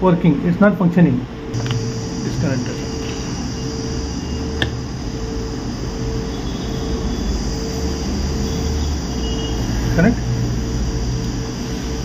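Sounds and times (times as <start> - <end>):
faint on-off hum: 0.2 - 12.0.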